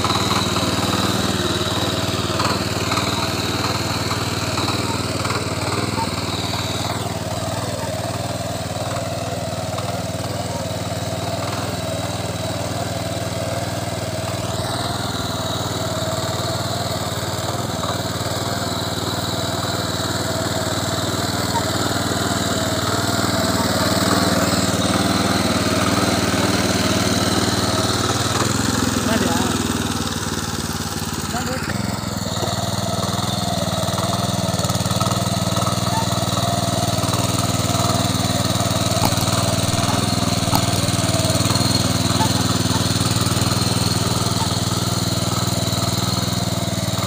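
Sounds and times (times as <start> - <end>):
tiller engine running: 0.0 - 47.0.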